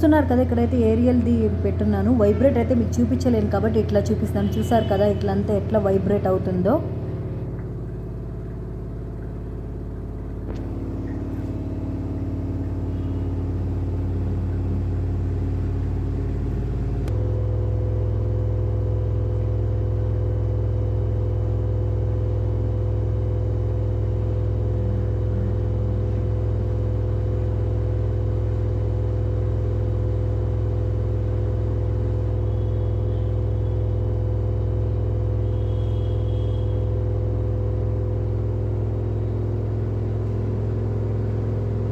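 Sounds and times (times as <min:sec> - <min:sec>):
washing machine spinning: 0:00.0 - 0:41.9.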